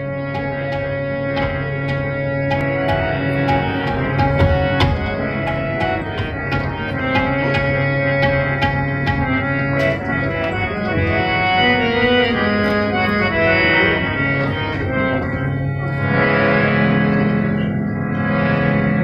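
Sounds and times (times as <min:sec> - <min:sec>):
harmonium held notes: 0:00.0 - 0:19.0.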